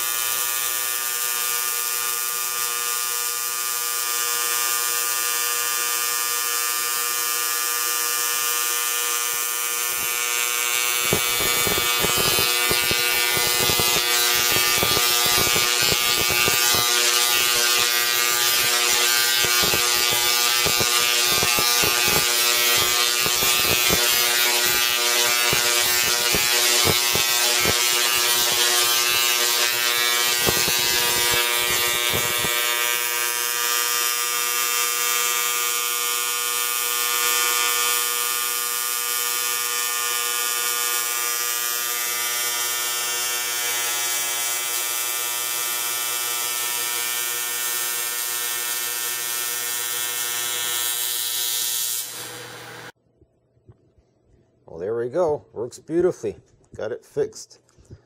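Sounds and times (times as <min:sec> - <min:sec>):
electric arc crackling and popping: 0:00.0 - 0:53.0
tesla coil buzzing: 0:00.0 - 0:53.0.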